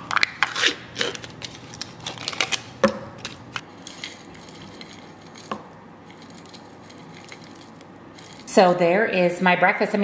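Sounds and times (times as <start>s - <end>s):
foil lid crinkling: 0.0s - 8.5s.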